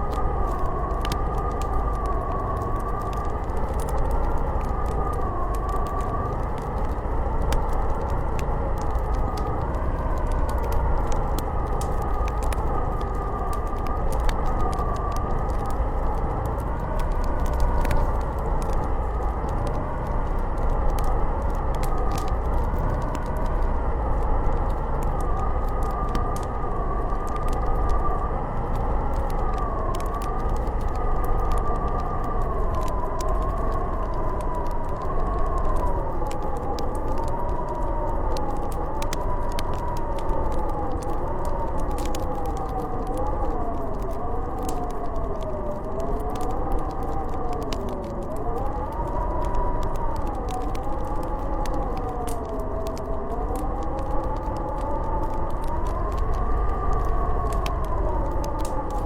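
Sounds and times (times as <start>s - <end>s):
howling blizzard wind: 0.0s - 59.0s
wood fire crackling: 0.0s - 59.0s.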